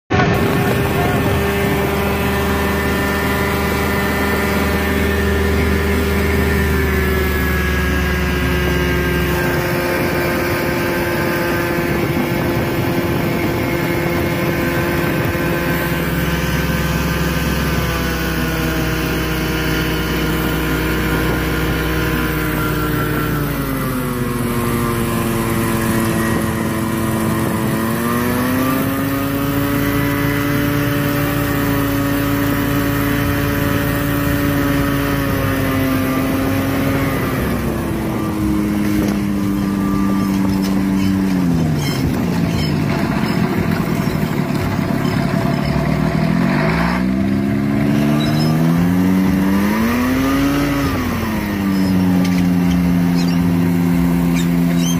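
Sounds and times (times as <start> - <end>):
light aircraft engine and propeller: 0.1 - 54.9.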